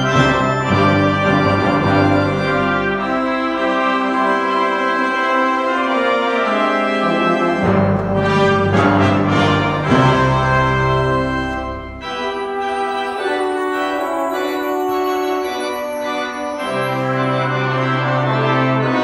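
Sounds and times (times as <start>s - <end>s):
brass ensemble: 0.0s - 19.0s
organ holding chords: 0.0s - 19.0s.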